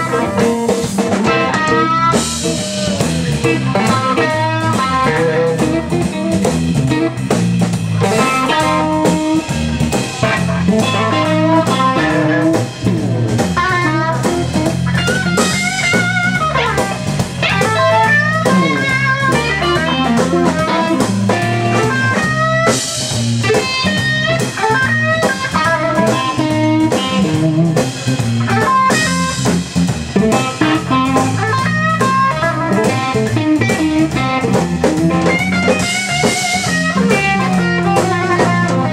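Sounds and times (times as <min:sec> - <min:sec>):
bass: 0:00.0 - 0:38.9
drum kit: 0:00.0 - 0:38.9
electric guitars playing lead lines: 0:00.0 - 0:38.9.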